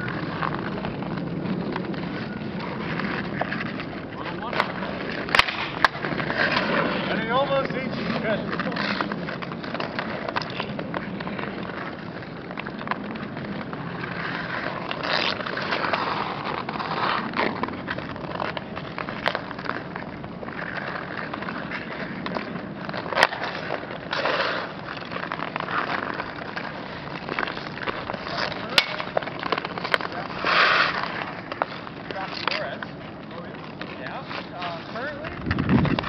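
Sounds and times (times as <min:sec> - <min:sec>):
stick cracking on puck: 0:00.0 - 0:34.8
hockey sticks clacking: 0:00.0 - 0:36.0
skate blades scraping ice: 0:00.0 - 0:36.0.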